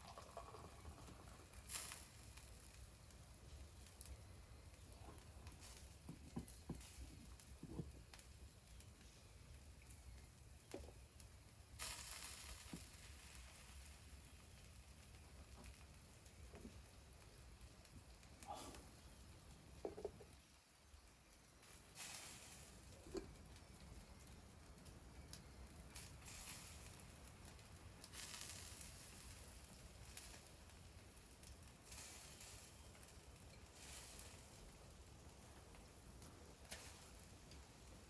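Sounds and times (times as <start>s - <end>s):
faint wood fire crackling: 0.0s - 38.0s
fire hissing: 0.0s - 38.0s.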